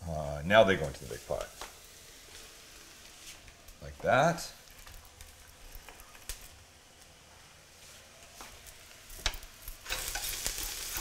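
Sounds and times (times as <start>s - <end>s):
faint sizzle of frying: 0.0s - 11.0s.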